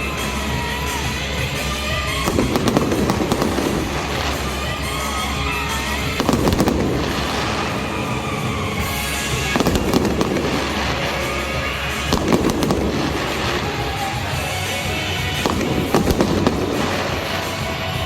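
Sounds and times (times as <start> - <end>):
fireworks bangs: 0.0 - 18.0
music playing: 0.0 - 18.0.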